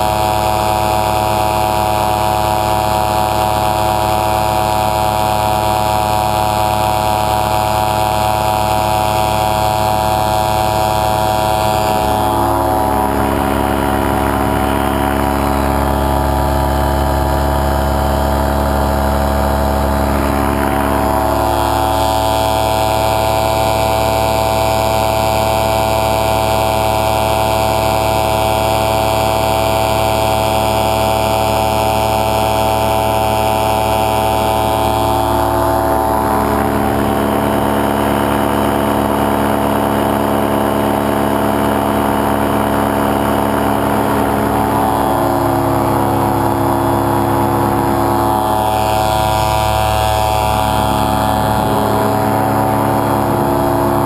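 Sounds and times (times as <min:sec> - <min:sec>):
paramotor engine drone: 0:00.0 - 0:54.0.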